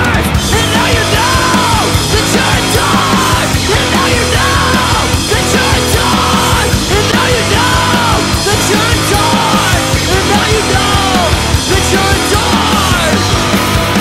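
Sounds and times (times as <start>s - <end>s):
punk rock band playing live: 0.0s - 14.0s.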